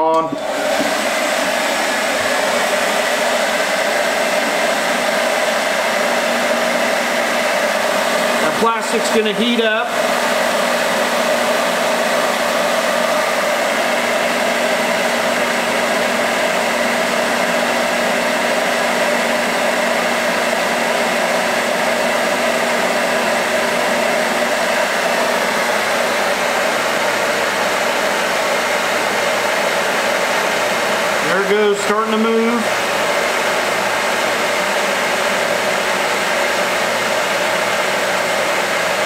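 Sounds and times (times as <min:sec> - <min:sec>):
hair dryer running: 0:00.0 - 0:39.0.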